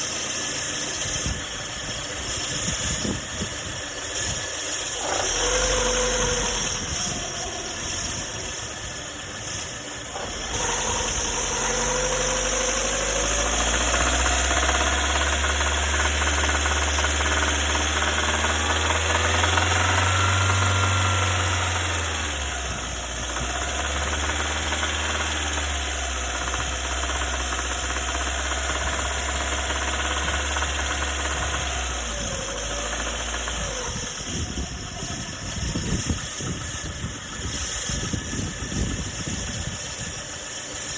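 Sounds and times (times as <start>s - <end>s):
car engine running with knock: 0.0s - 40.9s.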